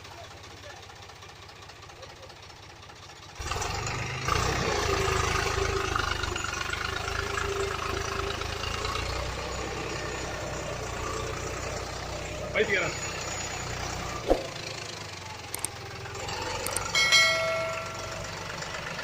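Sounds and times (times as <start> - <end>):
truck engine rumbling: 0.0 - 19.0
engine whine: 3.4 - 19.0.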